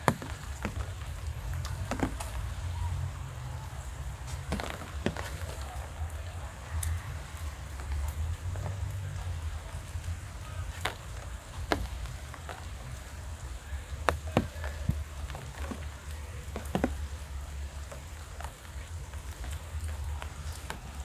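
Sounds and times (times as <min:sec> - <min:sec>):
rain drops tapping: 0:00.0 - 0:21.0.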